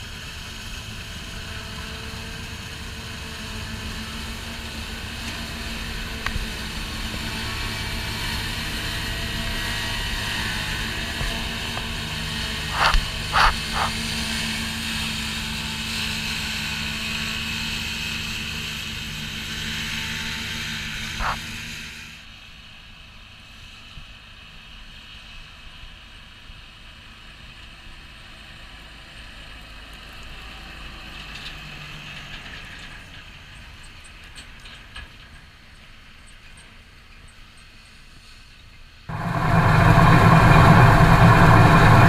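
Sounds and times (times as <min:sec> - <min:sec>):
combine harvester running: 0:00.0 - 0:36.2, 0:39.1 - 0:42.0.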